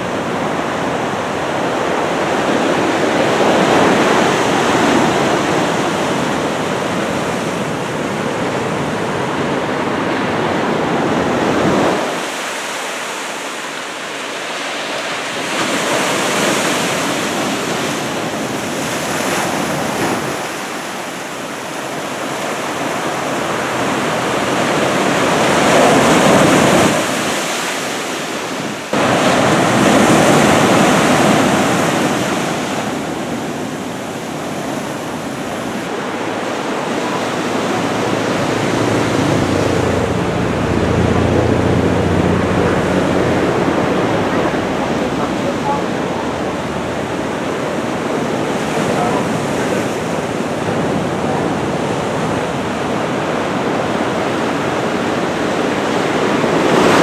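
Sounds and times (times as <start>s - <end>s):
heavy ocean surf breaking: 0.0s - 57.0s.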